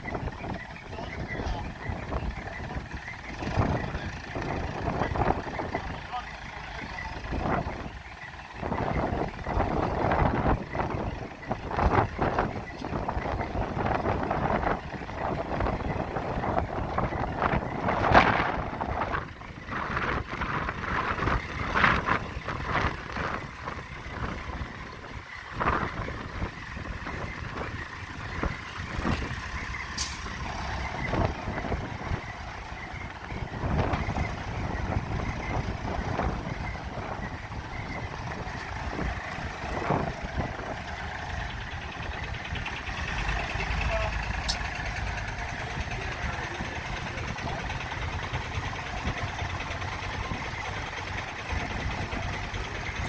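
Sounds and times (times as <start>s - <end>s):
backhoe engine running: 0.0s - 53.0s.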